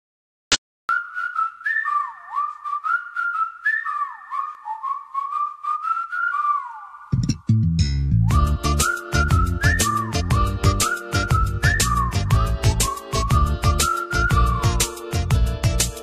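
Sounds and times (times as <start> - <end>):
whistled melody with sliding notes: 0.9 - 7.2, 7.9 - 16.0.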